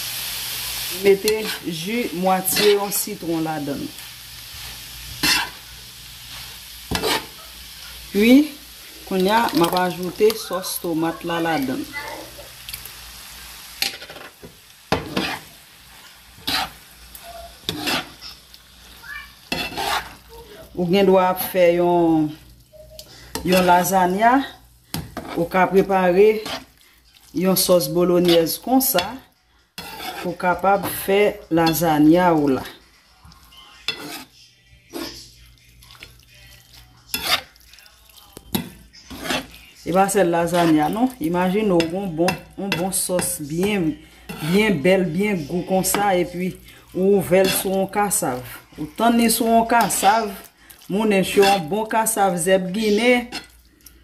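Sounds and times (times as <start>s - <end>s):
food sizzling: 0.0s - 54.0s
spatula scraping frying pan: 0.1s - 12.6s, 13.4s - 21.6s, 23.1s - 54.0s.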